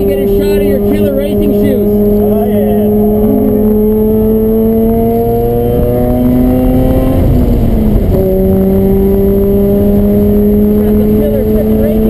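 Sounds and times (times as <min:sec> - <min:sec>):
rotary engine accelerating: 0:00.0 - 0:12.0.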